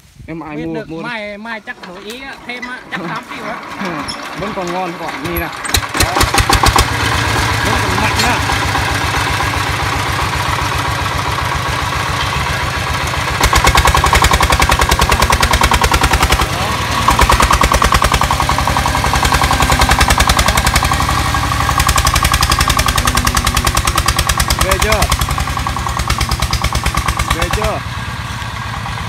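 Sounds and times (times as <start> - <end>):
diesel engine chugging: 0.4 - 29.0.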